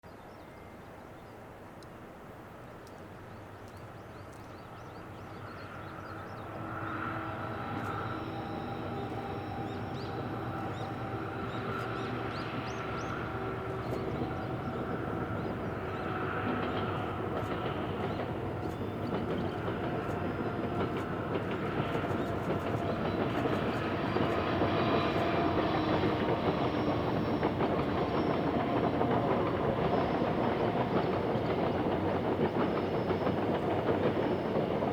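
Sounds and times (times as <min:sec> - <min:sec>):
train wheels clicking over rails: 0:06.0 - 0:34.9
locomotive engine running: 0:06.3 - 0:34.9.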